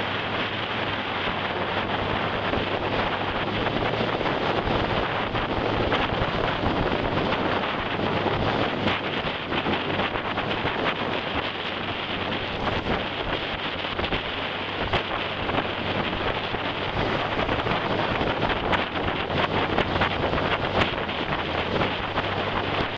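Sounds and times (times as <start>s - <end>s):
boat engine humming: 0.0s - 22.9s
boat wake churning: 0.0s - 22.9s
wind buffeting microphone: 0.0s - 22.9s.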